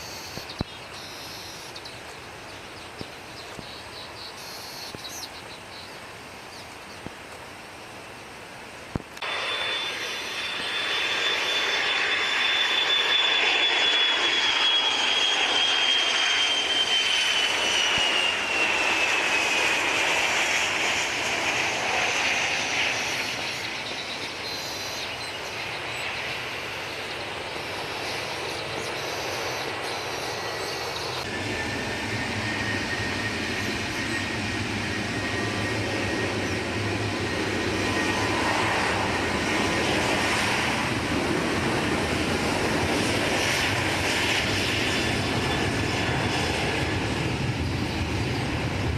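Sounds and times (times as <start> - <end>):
jet airplane passing with whine: 0.0 - 48.9.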